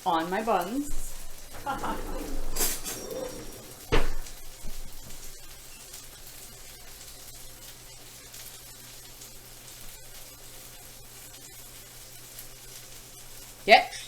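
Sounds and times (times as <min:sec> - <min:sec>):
faint crackles: 0:00.0 - 0:14.0
patties sizzling in a frying pan: 0:00.0 - 0:14.0.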